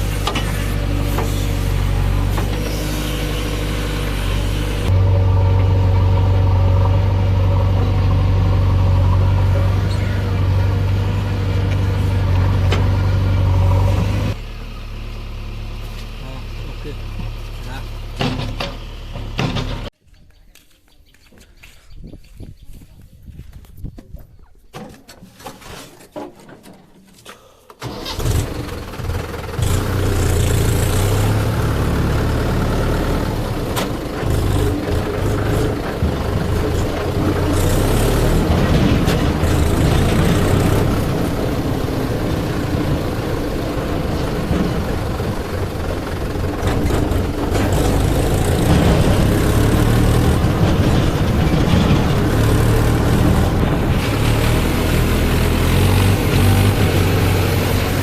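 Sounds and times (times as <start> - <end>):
heavy diesel engine rumbling: 0.0 - 20.0, 27.8 - 58.0.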